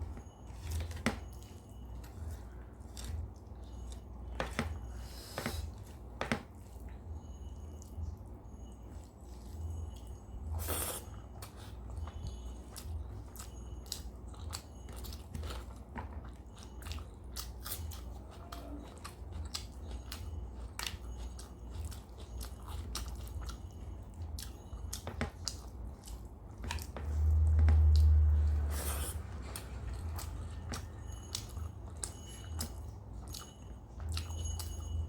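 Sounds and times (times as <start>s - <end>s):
person chewing food: 0.0s - 8.0s, 8.7s - 35.0s.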